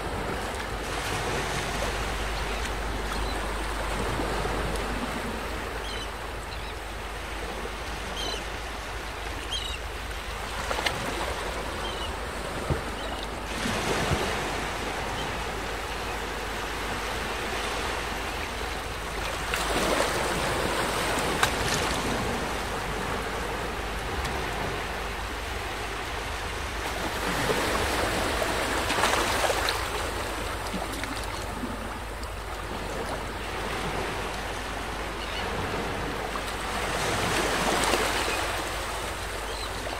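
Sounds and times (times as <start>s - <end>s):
small waves washing up beach: 0.0s - 39.9s.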